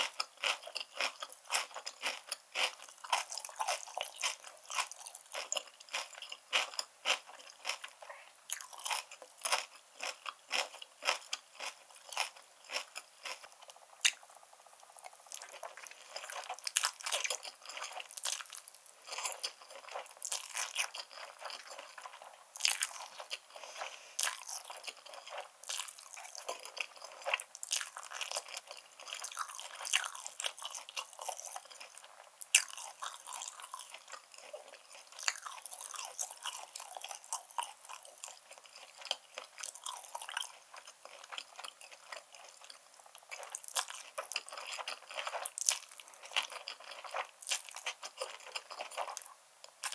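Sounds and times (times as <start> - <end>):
chewing noodles close up: 0.0 - 49.9.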